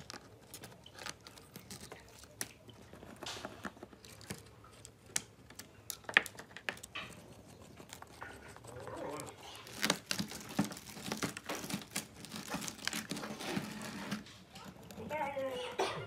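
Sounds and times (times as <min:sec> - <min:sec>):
laptop being taken apart: 0:00.0 - 0:15.0.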